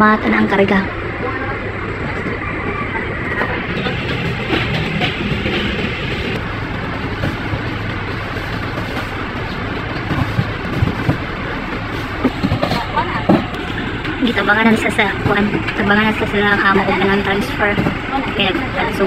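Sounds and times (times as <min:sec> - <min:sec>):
constant rushing noise: 0:00.0 - 0:19.0
diesel truck engine idling: 0:00.0 - 0:19.0.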